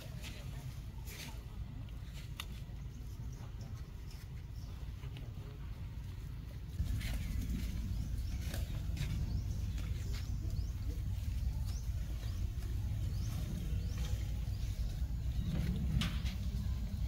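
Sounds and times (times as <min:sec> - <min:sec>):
low rumble: 0:02.8 - 0:17.0.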